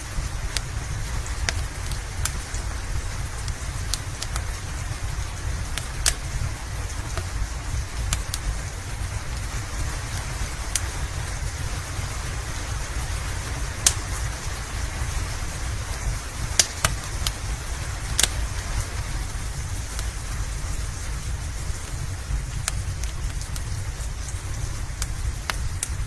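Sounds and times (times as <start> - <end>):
fire popping: 0.0 - 26.0
steady rain: 0.0 - 26.0
wood fire crackling: 0.0 - 26.0.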